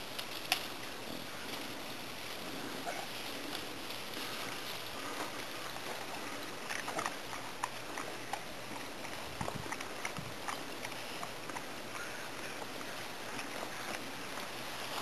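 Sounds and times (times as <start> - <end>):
leaves and stems crackling: 0.0 - 15.0
steady hiss: 0.0 - 15.0.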